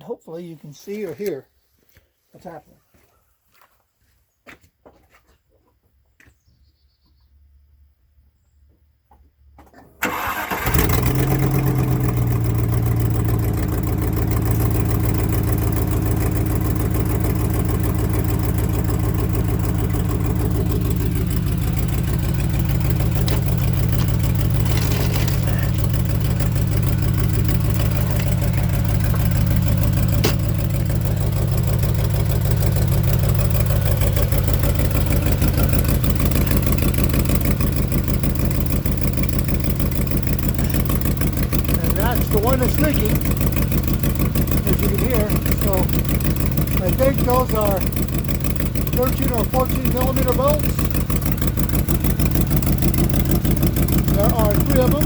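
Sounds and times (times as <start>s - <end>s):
car engine cranking and starting: 9.6s - 55.0s
car engine idling: 10.0s - 55.0s.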